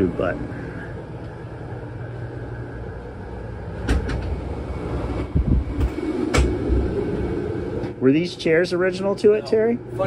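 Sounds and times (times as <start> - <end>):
low hum of machinery: 0.0 - 10.0.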